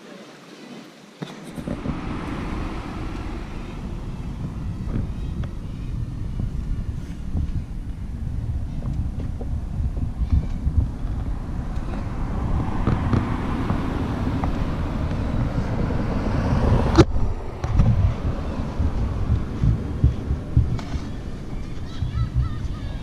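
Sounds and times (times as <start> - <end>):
wind buffeting microphone: 1.2 - 23.0
vehicle passing: 1.3 - 23.0.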